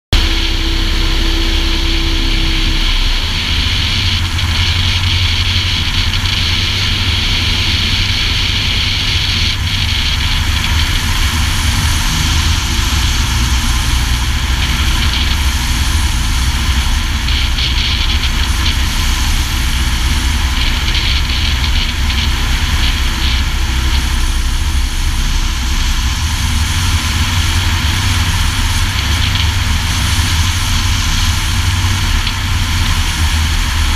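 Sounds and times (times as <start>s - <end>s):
steady tone: 0.0s - 33.0s
light aircraft engine and propeller: 0.2s - 33.9s.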